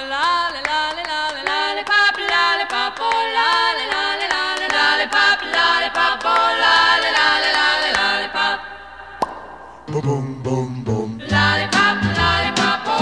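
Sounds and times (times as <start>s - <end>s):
vocal group singing: 0.0s - 13.0s.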